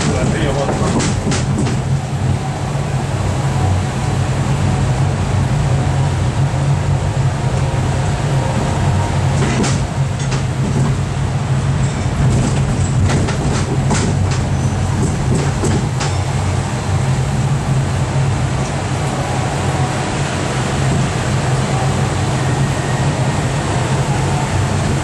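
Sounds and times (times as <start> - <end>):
train engine drone: 0.0 - 25.0
train rolling noise: 0.0 - 25.0.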